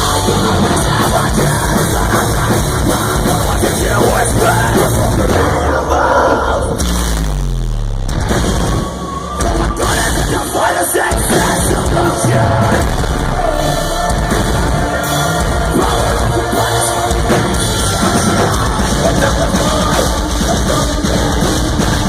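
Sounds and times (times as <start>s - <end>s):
vocalist singing and yelling: 0.0s - 6.8s, 9.0s - 22.0s
live metal band playing: 0.0s - 22.0s.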